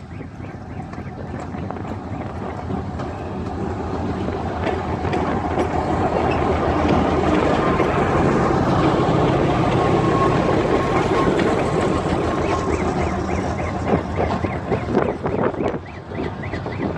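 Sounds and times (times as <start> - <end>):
diesel locomotive engines droning: 0.0 - 16.9
train wheels clicking over rail joints: 0.0 - 16.9.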